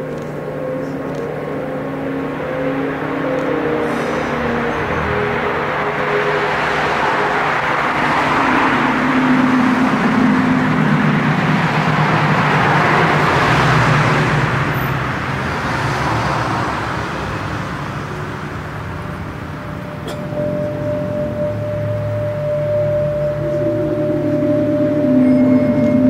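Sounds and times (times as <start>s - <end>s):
car passing by: 0.1s - 26.0s.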